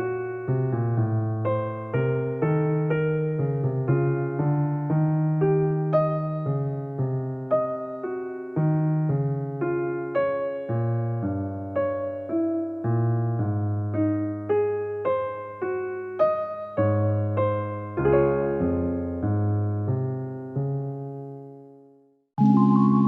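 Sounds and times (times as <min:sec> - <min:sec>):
gentle electric piano melody: 0:00.0 - 0:21.8, 0:22.4 - 0:23.0.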